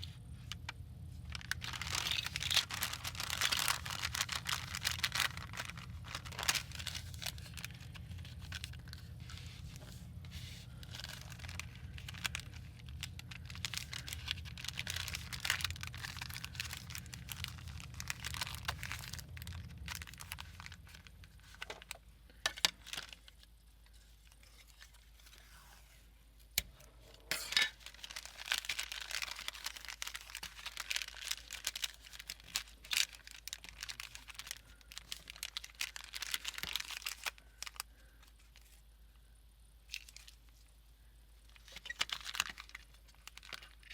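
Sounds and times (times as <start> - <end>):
paper crinkling and tearing: 0.0 - 26.1, 27.5 - 38.8, 39.9 - 40.7, 41.5 - 43.9.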